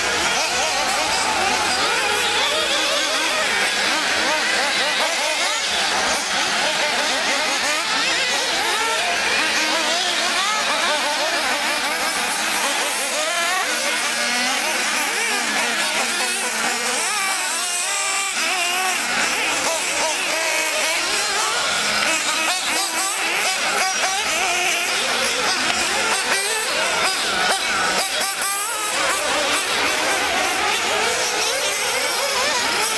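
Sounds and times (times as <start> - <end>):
model car engines screaming: 0.0 - 32.9.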